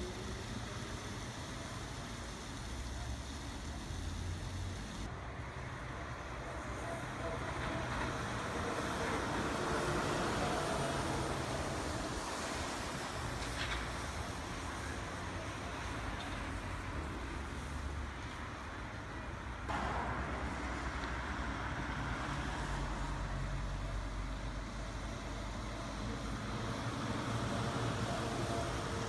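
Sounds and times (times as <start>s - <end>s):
road traffic rumble: 0.0s - 29.0s
trolleybus passing close: 0.0s - 29.0s.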